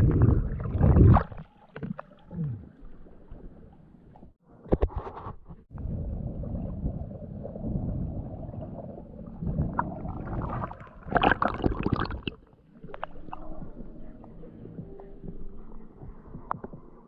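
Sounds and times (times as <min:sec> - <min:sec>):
underwater flowing water gurgle: 0:00.0 - 0:04.4, 0:05.7 - 0:16.9.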